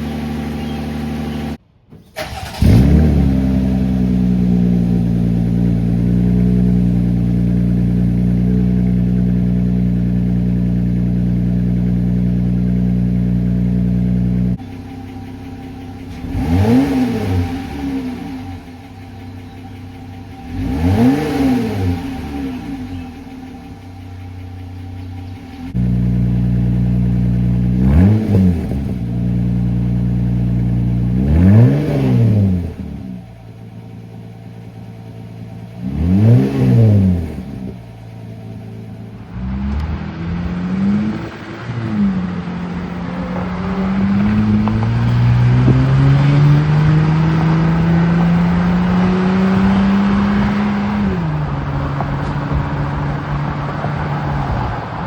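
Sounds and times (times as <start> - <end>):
engine idling and revving: 0.0 - 55.0.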